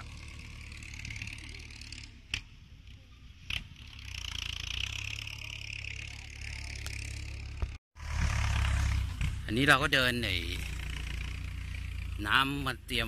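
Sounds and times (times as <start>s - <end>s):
distant tractor diesel engine: 0.0s - 13.0s.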